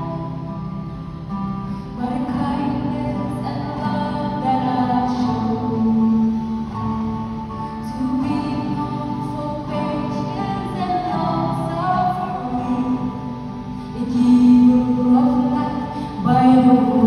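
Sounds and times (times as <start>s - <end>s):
strummed acoustic guitar: 0.0s - 17.0s
woman singing: 1.7s - 17.0s.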